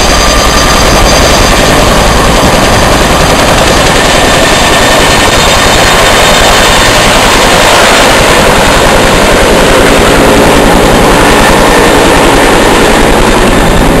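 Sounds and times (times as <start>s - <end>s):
helicopter rotor chopping: 0.0s - 14.0s
turbine engines: 0.0s - 14.0s.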